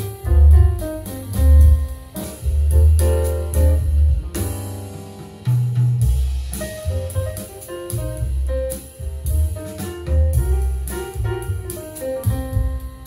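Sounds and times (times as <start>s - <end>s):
deep bass line: 0.0s - 13.0s
drum kit: 0.0s - 13.0s
piano: 0.0s - 13.0s.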